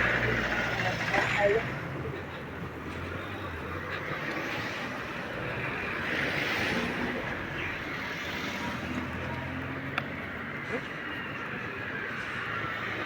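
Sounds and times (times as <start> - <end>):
vehicle running noise: 0.0 - 13.0.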